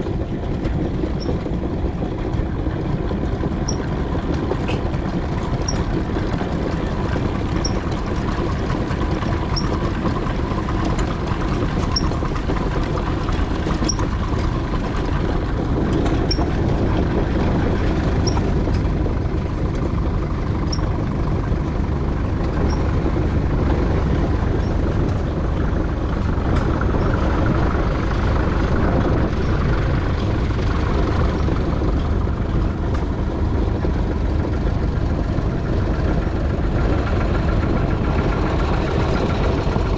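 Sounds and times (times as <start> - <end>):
steam engine rumble and clatter: 0.0 - 39.9.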